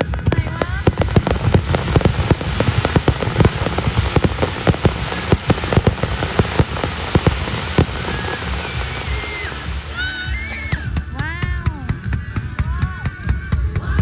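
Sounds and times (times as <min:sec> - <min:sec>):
fireworks crackling: 0:00.0 - 0:14.0
fireworks popping and banging: 0:00.0 - 0:14.0.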